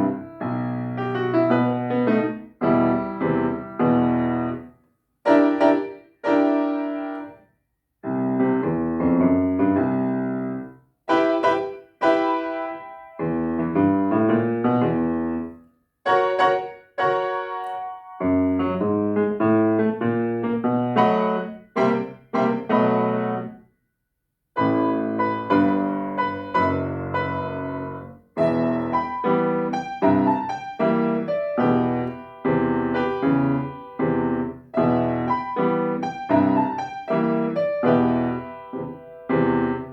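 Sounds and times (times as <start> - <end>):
slow blues piano: 0.0 - 7.4, 8.0 - 23.6, 24.6 - 39.9.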